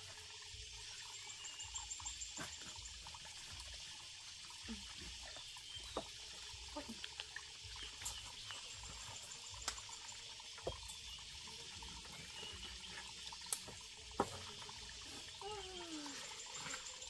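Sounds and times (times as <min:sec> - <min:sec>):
hiss of running water: 0:00.0 - 0:17.0.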